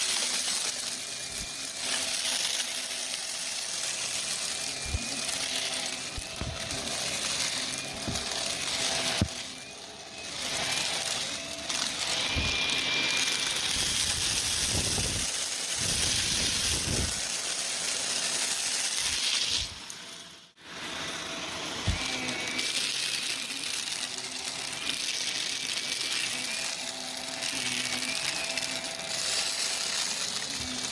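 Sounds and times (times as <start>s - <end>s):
upright vacuum running: 0.0s - 30.9s.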